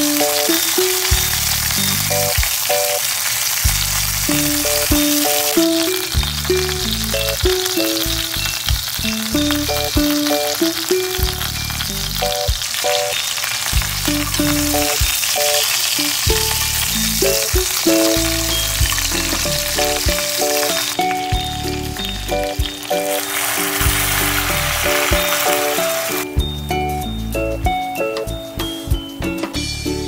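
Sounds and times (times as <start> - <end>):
background music with steady beat: 0.0 - 2.7, 3.6 - 30.0
meat sizzling in a pot: 0.0 - 27.3.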